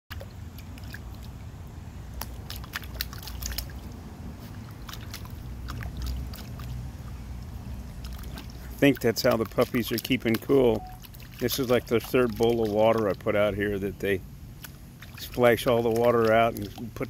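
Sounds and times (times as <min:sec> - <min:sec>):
low steady rumble: 0:00.1 - 0:17.0
puppy splashing in water: 0:00.1 - 0:17.0.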